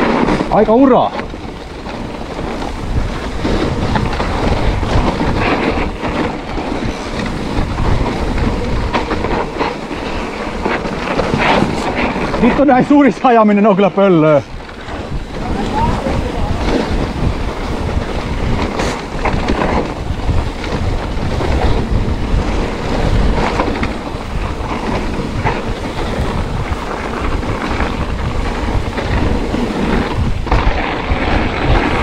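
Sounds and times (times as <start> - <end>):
bike rattling and knocking: 0.0 - 32.0
tyres rumbling over trail: 0.0 - 32.0.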